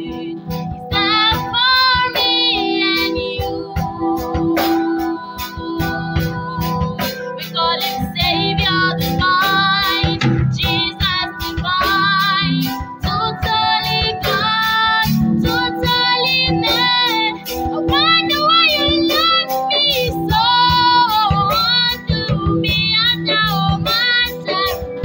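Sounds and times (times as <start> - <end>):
backing music with steady beat: 0.0 - 25.0
woman singing with vibrato: 0.0 - 25.0.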